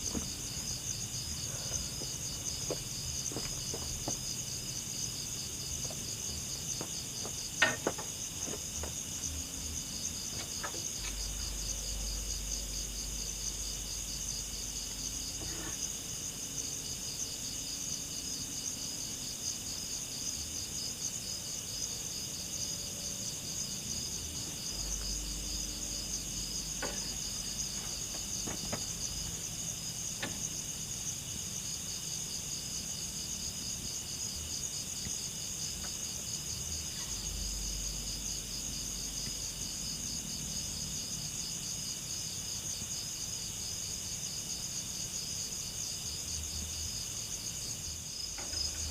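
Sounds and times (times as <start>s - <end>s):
insects trilling: 0.0s - 48.9s.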